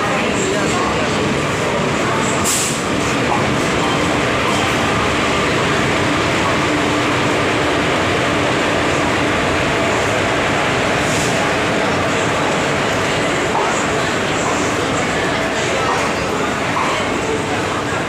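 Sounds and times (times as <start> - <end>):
train passing close: 0.0 - 18.0.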